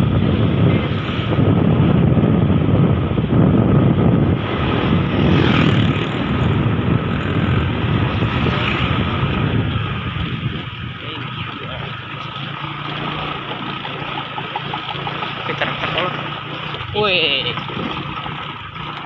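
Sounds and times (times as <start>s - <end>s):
motorbike engine cruising: 0.0s - 19.0s
oncoming motorbike passing: 0.0s - 19.0s
wind rushing over microphone: 0.0s - 19.0s.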